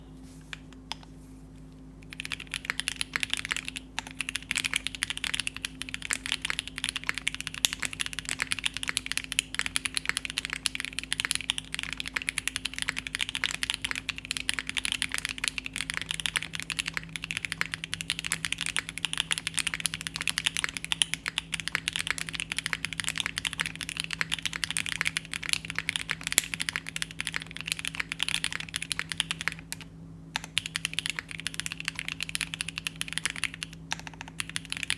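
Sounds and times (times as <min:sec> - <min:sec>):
faint steady hum: 0:00.0 - 0:34.9
fast typing on mechanical keyboard: 0:02.0 - 0:34.9.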